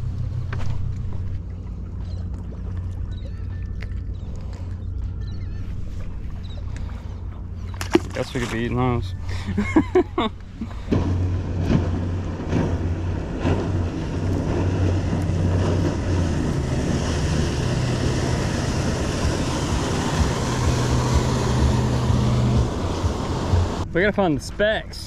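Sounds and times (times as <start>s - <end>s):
outboard motor drone: 0.0s - 25.0s.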